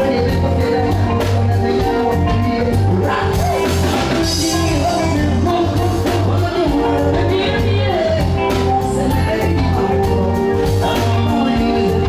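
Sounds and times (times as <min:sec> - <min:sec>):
drums: 0:00.0 - 0:12.0
live band playing upbeat song: 0:00.0 - 0:12.0
person singing: 0:00.0 - 0:12.0
pulsing bass line: 0:00.0 - 0:12.0.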